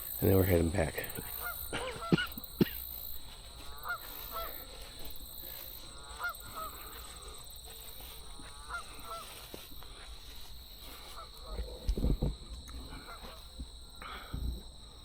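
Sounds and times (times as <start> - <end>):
geese honking: 0.0 - 14.3.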